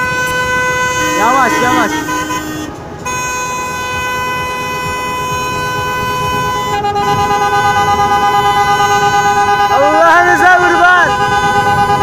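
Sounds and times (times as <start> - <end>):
car horn long blast: 0.0 - 12.0
lower car horn pulsing: 0.0 - 12.0.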